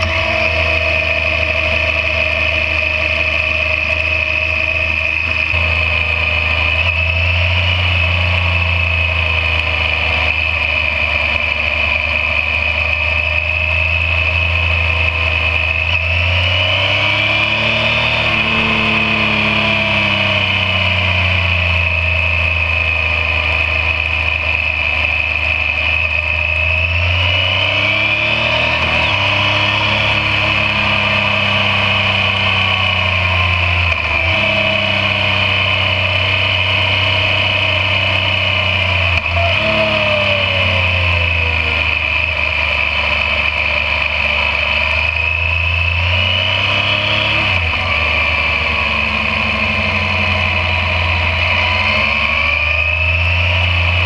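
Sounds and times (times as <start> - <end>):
motorcycle engine revving: 0.0 - 54.0
steady high whine: 0.0 - 54.0.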